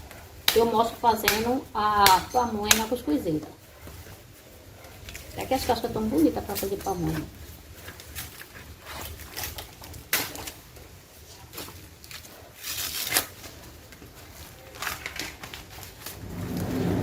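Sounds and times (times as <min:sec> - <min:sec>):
corn husks rustling and tearing: 0:00.0 - 0:17.0.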